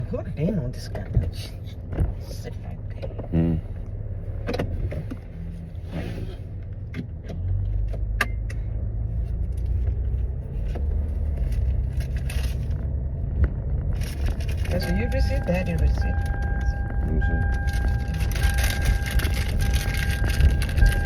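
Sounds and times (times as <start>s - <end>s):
car rumble inside cabin: 0.0s - 21.0s.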